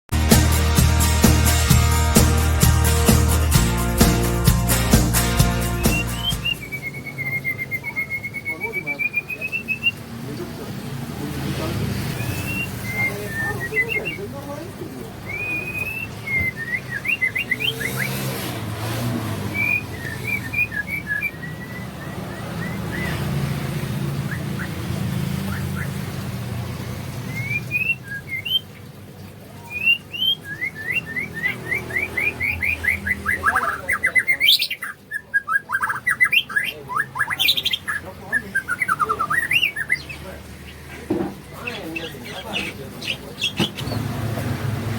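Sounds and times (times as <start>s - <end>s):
songbird singing: 3.1s - 44.9s.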